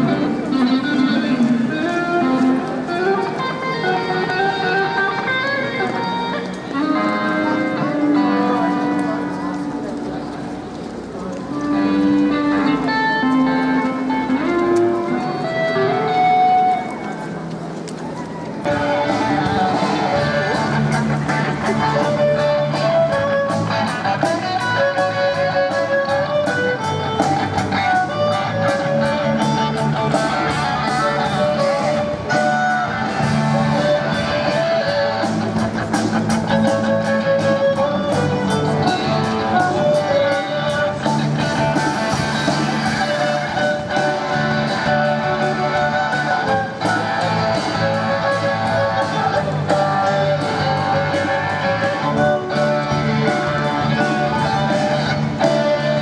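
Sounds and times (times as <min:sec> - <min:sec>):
rock band playing live: 0:00.0 - 0:17.9, 0:18.5 - 0:56.0.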